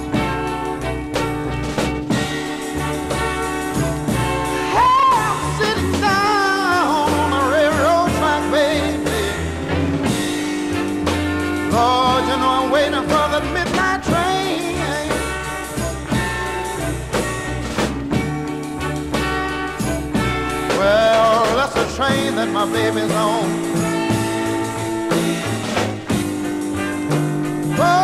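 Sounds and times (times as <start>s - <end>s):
blues band playing: 0.0s - 28.0s.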